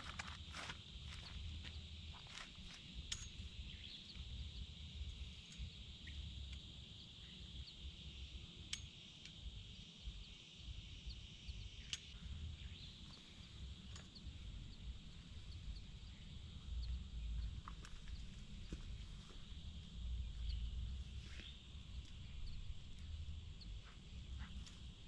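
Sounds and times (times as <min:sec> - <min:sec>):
steady high-pitched hiss: 0:00.0 - 0:25.0
faint chirps: 0:01.0 - 0:25.0.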